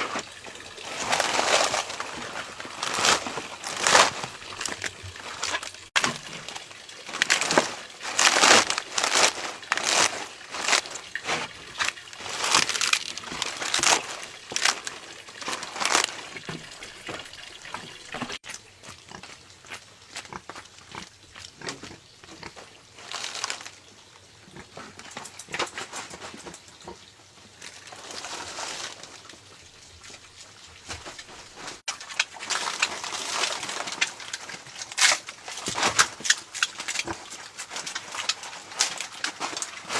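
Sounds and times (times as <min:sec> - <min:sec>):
rustling and crunching: 0:00.0 - 0:23.9, 0:24.5 - 0:39.9.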